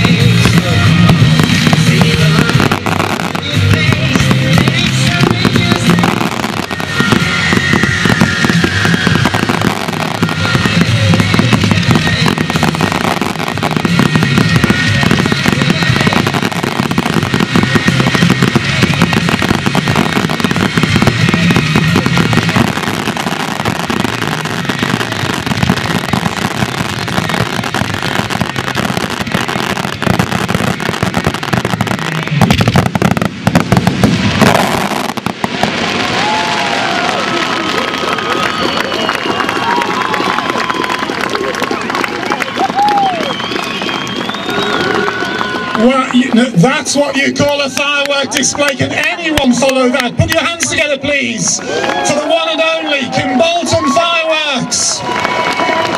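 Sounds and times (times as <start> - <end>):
music soundtrack: 0.0 - 47.8
fireworks bursting and crackling: 0.0 - 55.9.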